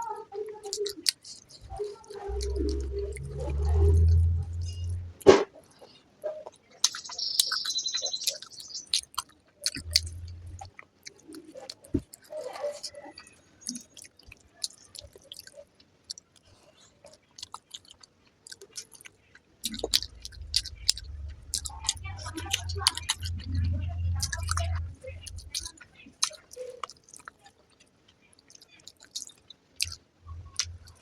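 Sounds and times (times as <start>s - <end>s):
person chewing food: 0.5s - 31.0s.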